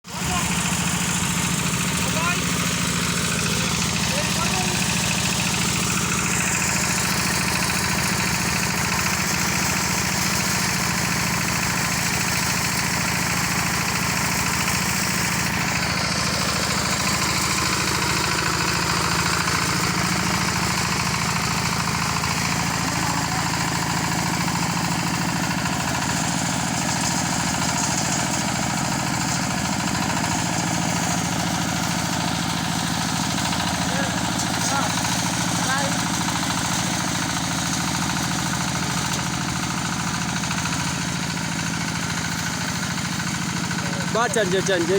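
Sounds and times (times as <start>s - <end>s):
harvester engine running: 0.1s - 44.9s.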